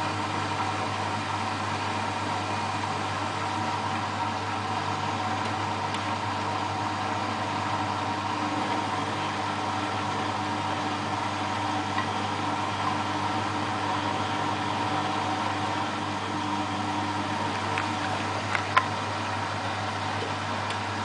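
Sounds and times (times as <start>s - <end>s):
washing machine humming: 0.0s - 21.0s.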